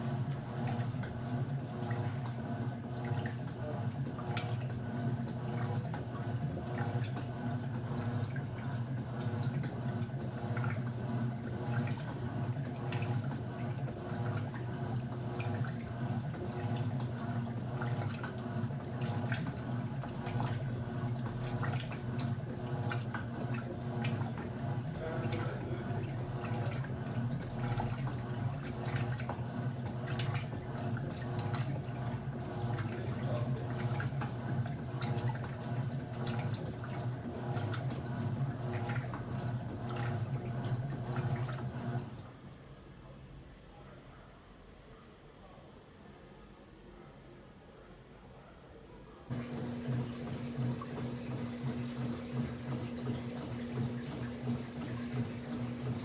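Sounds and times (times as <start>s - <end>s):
washing machine motor hum: 0.0s - 42.6s, 49.3s - 56.0s
water sloshing in tub: 0.0s - 42.9s, 49.3s - 56.0s.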